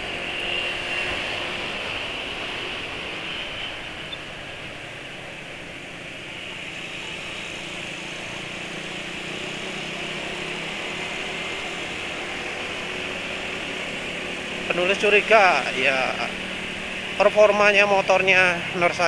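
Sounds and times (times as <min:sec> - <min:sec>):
scooter engine drone: 0:00.0 - 0:19.0
wind and road noise: 0:00.0 - 0:19.0.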